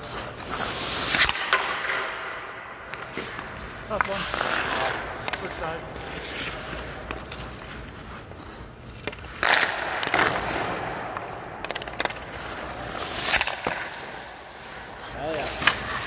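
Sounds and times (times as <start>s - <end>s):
skates scraping on ice: 0.0s - 16.0s
stick and puck clacks: 0.0s - 16.0s.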